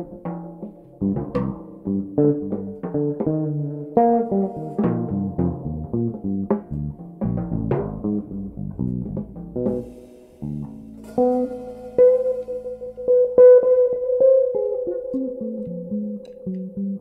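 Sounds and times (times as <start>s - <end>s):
drum kit: 0.0s - 14.1s
electric bass playing jazz lines: 0.0s - 17.0s.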